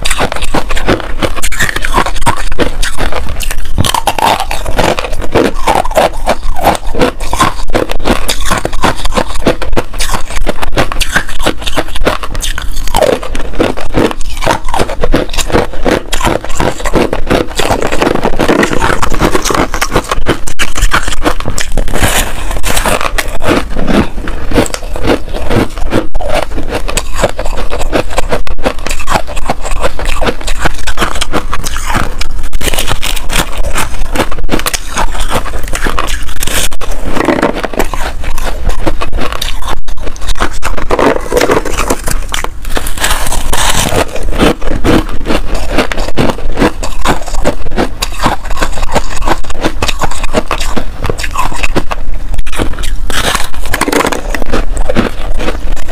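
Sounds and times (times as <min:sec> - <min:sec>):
crunching and chewing ice: 0:00.0 - 0:55.9.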